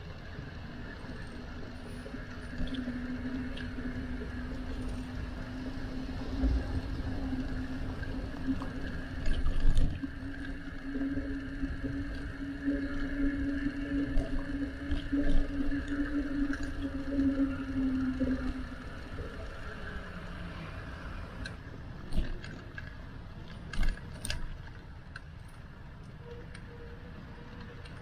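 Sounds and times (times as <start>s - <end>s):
steady hum: 0.0s - 25.2s
wind rumbling on microphone: 0.0s - 28.0s.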